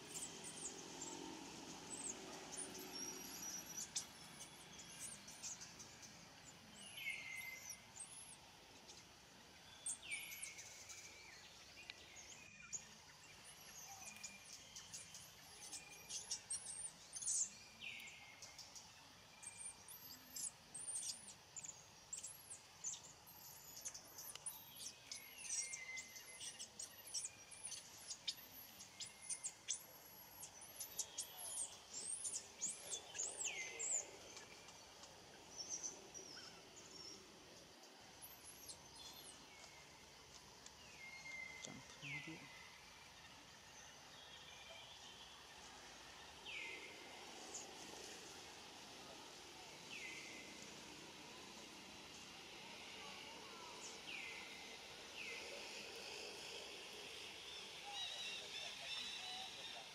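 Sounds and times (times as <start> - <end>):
birds chirping high: 0.0 - 52.2.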